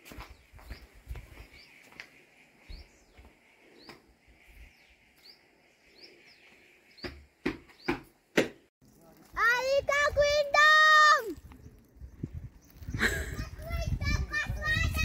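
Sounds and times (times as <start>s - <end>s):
birds chirping: 0.1s - 8.3s, 8.9s - 15.0s.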